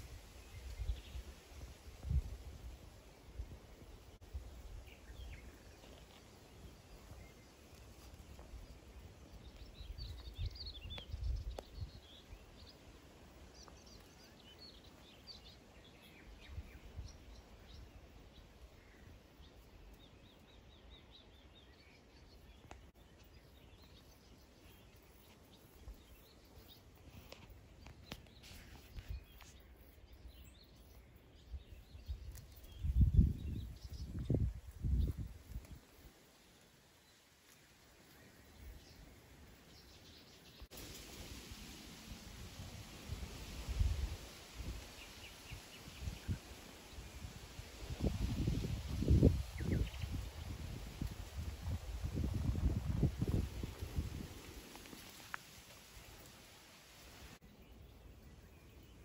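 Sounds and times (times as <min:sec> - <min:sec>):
quiet hiss: 0:00.0 - 0:59.0.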